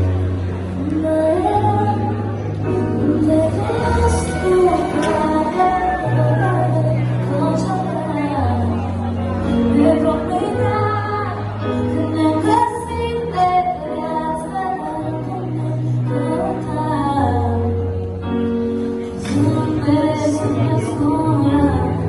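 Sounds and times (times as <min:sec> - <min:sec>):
woman singing: 0:00.7 - 0:18.1, 0:19.1 - 0:22.0.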